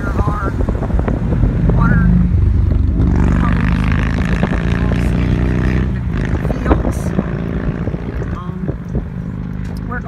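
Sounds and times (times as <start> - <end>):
car engine hum: 0.0 - 10.0
road noise: 0.0 - 10.0.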